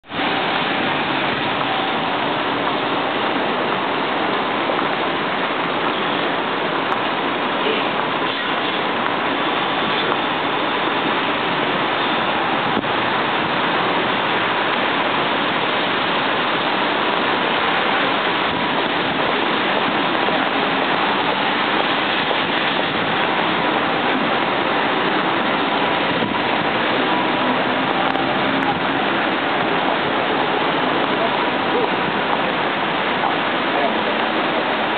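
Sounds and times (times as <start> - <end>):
car tyres on wet asphalt: 0.0 - 34.9
rain falling: 0.0 - 34.9.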